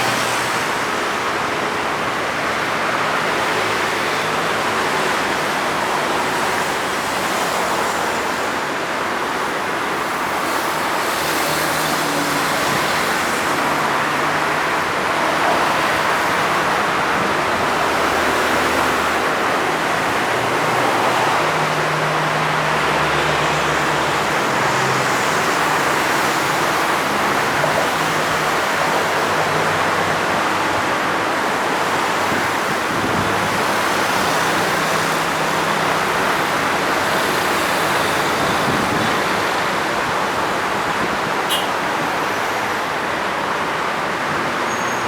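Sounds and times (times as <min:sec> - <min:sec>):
heavy machinery diesel engines: 0:00.0 - 0:45.0.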